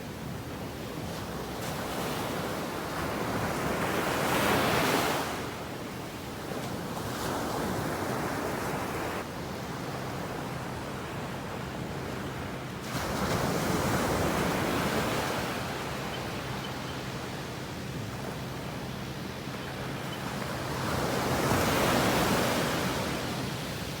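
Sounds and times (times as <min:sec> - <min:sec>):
waves breaking on a beach: 0:00.0 - 0:24.0.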